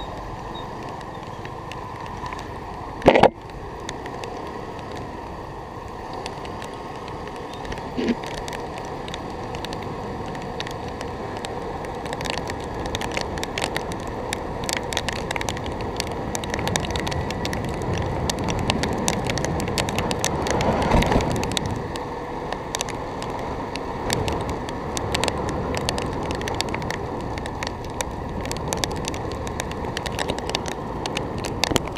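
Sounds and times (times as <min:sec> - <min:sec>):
wind and road rush: 0:00.0 - 0:31.9.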